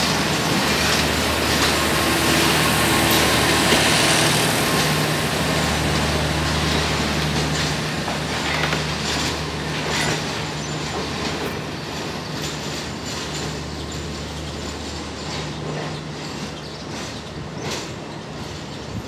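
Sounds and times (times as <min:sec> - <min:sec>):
train wheels clacking: 0:00.0 - 0:19.0.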